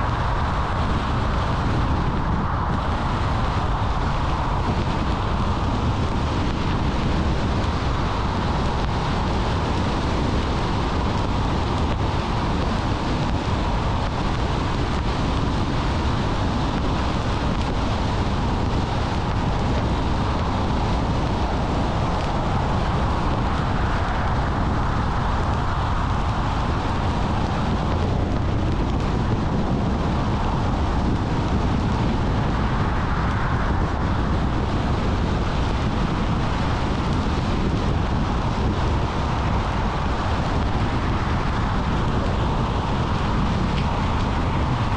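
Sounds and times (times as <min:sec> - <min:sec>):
car engine and road noise: 0:00.0 - 0:44.9
wind noise: 0:00.0 - 0:44.9.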